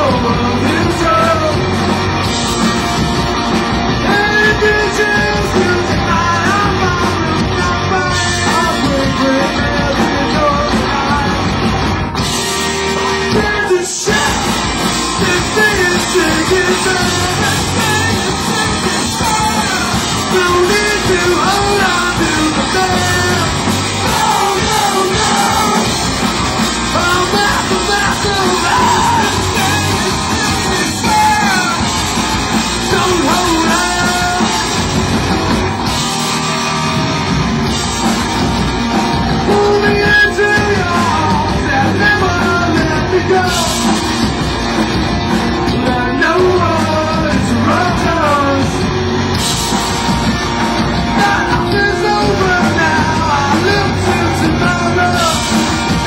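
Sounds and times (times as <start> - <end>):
person singing: 0.0 - 1.9, 3.9 - 11.6, 12.9 - 26.1, 26.8 - 32.0, 32.6 - 35.3, 38.1 - 44.1, 45.6 - 48.9, 51.0 - 56.0
live rock band playing: 0.0 - 56.0.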